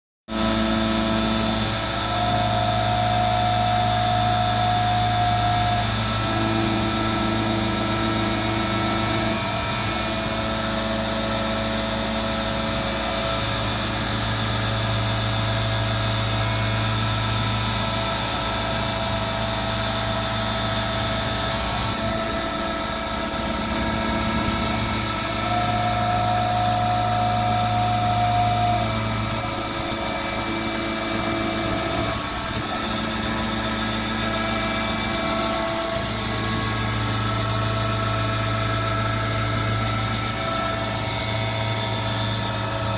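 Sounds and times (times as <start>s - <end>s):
low machine hum: 0.3s - 42.9s
milling machine whine: 0.3s - 42.9s.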